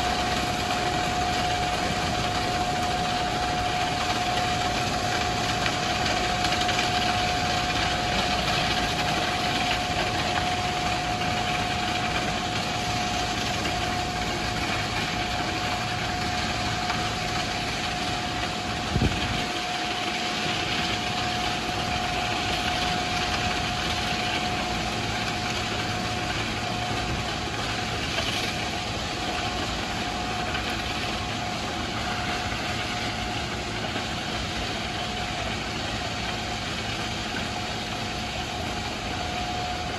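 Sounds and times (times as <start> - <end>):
steady whine: 0.0 - 39.9.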